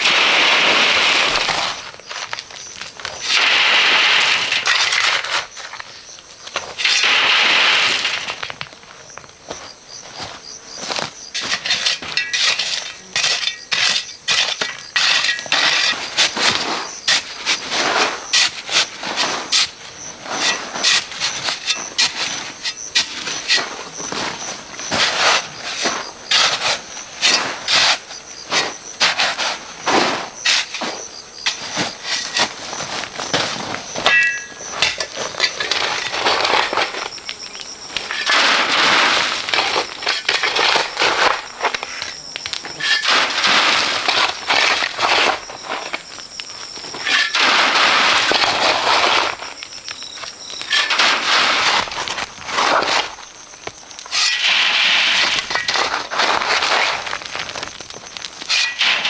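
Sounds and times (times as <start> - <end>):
hand tool scraping gritty ground: 0.0 - 59.0
stone and gravel clinking: 0.0 - 59.0.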